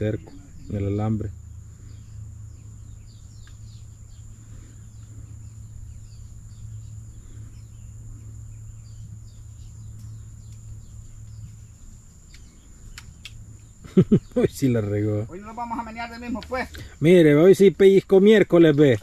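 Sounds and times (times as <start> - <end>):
low steady rumble: 0.0 - 17.7
birds chirping: 0.0 - 19.0.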